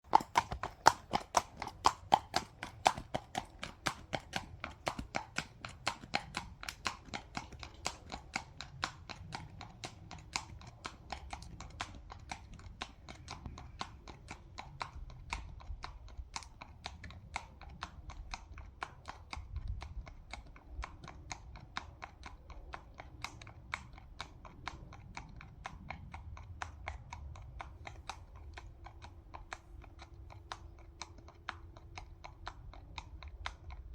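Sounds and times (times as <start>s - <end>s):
horse hooves clip-clopping on road: 0.1s - 33.9s.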